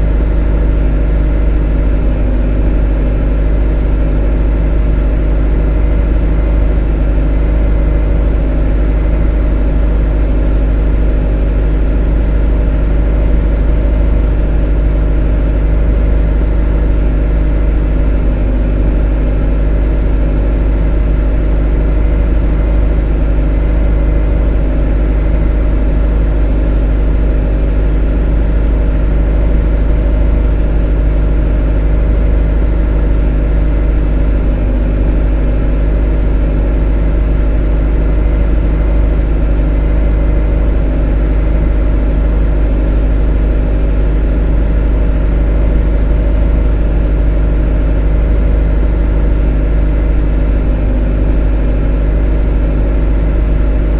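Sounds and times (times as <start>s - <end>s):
motor droning: 0.0s - 53.9s.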